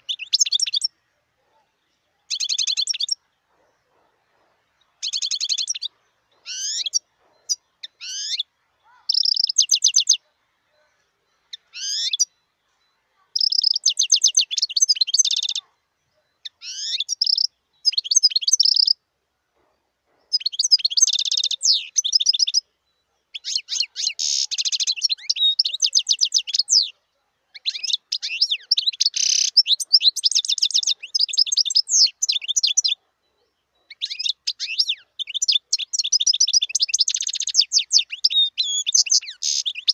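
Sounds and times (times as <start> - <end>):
goldfinch twittering and trills: 4.8 - 19.0, 20.2 - 33.0, 33.6 - 39.9.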